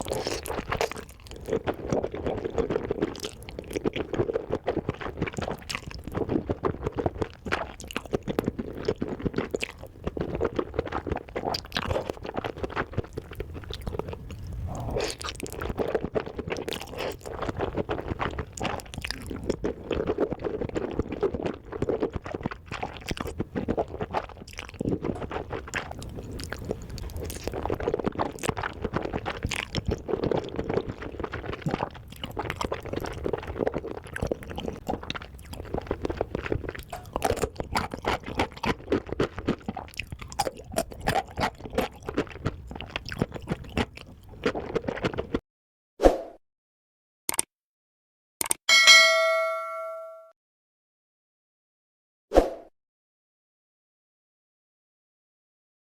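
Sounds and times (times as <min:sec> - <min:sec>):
person chewing and crunching food: 0:00.0 - 0:45.4.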